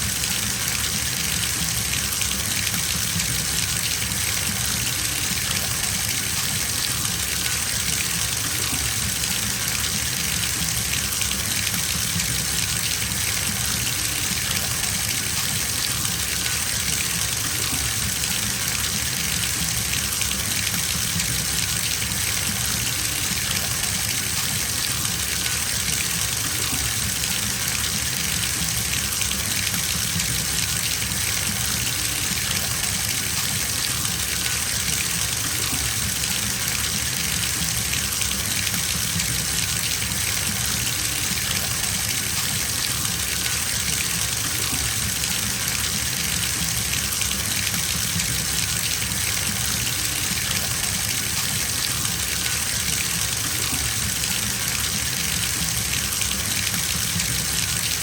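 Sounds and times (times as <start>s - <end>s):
water gushing into bathtub: 0.0s - 58.0s.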